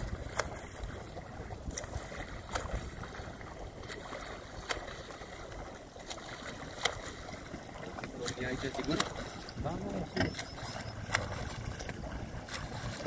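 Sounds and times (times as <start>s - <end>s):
low rumble of water and boat: 0.0s - 13.0s
short water splashes: 0.0s - 13.0s.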